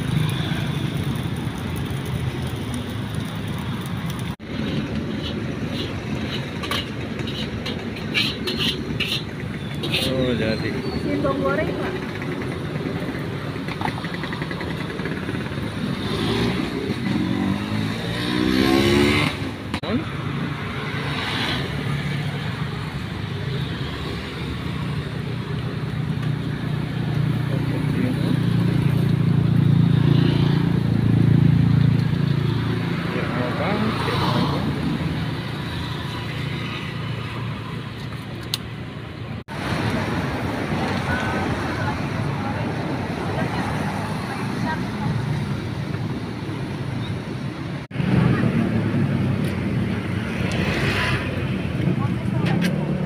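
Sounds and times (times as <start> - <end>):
rumble of passing vehicles: 0.0 - 53.0
street traffic engine hum: 0.0 - 53.0.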